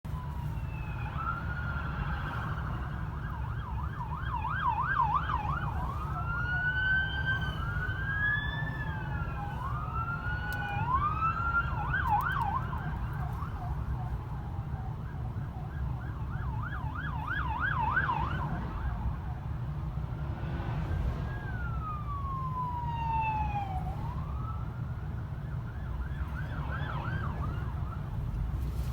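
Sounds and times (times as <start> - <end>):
engine and road noise rumble: 0.0 - 28.9
police sirens wailing and yelping: 0.1 - 19.6, 21.1 - 28.4.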